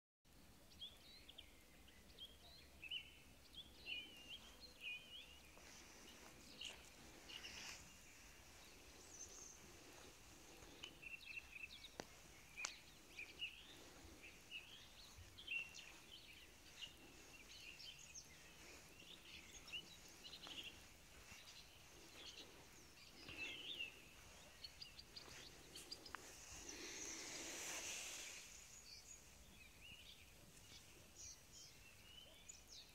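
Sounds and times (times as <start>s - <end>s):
birds chirping and trilling: 0.7s - 32.9s.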